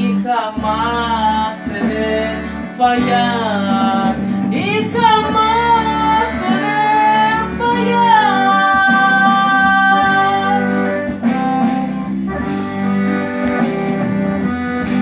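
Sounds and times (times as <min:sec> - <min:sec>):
guitar: 0:00.0 - 0:15.0
person singing wordless notes: 0:00.0 - 0:15.0.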